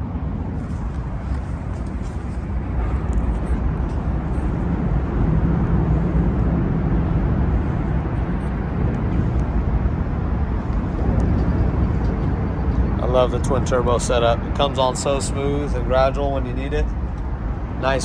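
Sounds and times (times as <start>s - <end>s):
car engine low drone: 0.0s - 18.0s.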